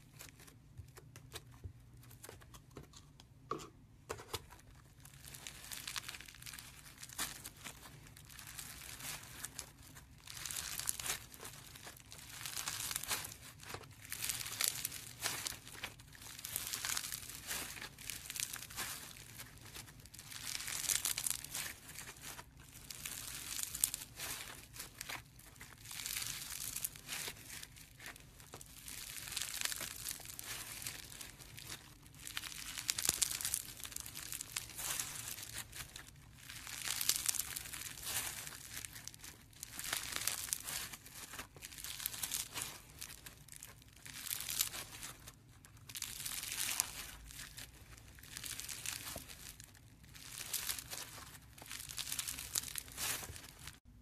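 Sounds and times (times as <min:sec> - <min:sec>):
squeezed slime crackling and popping: 0:00.0 - 0:01.6, 0:04.4 - 0:53.9.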